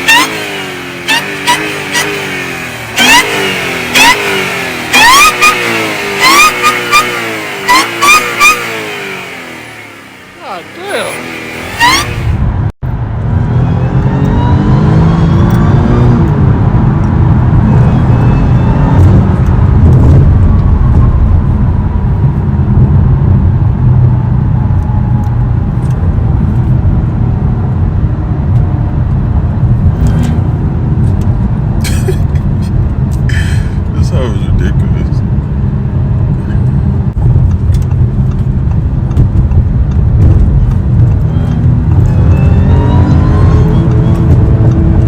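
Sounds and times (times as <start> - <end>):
supercharger whine: 0.0 - 31.8, 35.1 - 45.0
car engine accelerating: 0.0 - 45.0.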